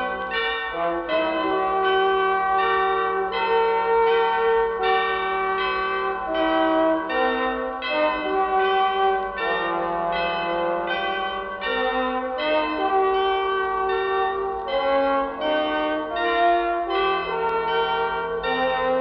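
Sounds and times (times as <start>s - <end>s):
bell-like background music: 0.0s - 19.0s.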